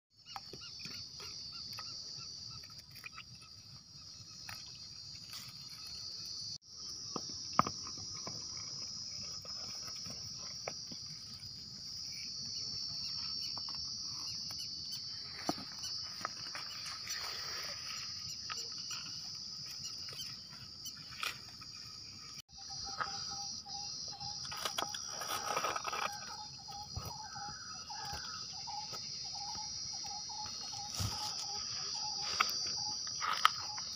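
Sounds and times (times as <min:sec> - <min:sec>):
insects chorus: 0:00.2 - 0:33.9.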